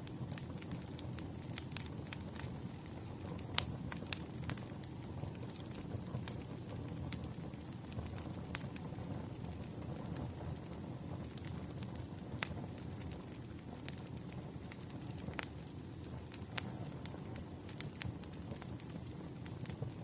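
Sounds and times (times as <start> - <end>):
fire crackles and pops: 0.0 - 20.0
fire low rumble: 0.0 - 20.0.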